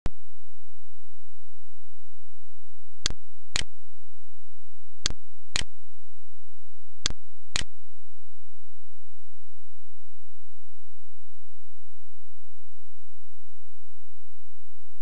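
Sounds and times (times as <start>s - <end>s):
low electrical hum: 0.1s - 15.0s.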